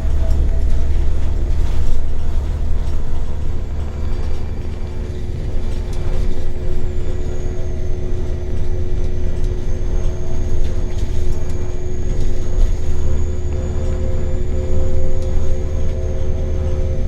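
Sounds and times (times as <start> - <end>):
bus engine drone: 0.0 - 17.0
faint high whine: 0.0 - 17.0.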